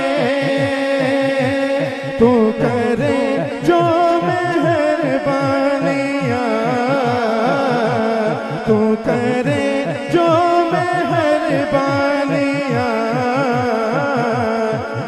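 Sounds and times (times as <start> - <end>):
man singing into a microphone: 0.0 - 15.0
steady low beat: 0.0 - 15.0.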